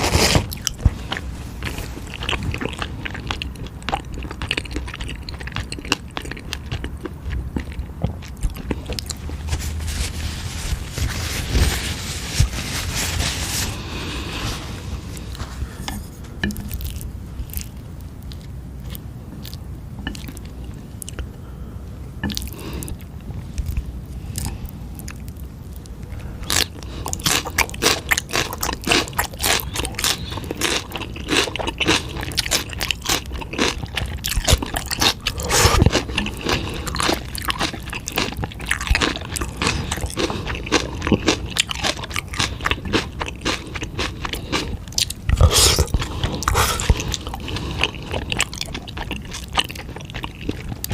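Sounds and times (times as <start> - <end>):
wet chewing and slurping: 0.0 - 12.6, 13.2 - 21.3, 22.2 - 50.9.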